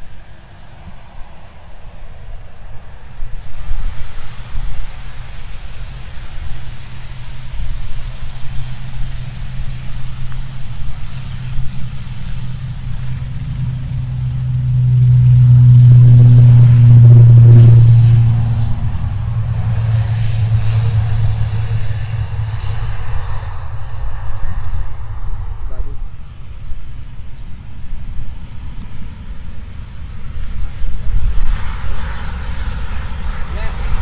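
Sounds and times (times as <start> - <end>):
thin high whine: 0.0 - 27.7
aircraft engines passing: 0.0 - 34.0.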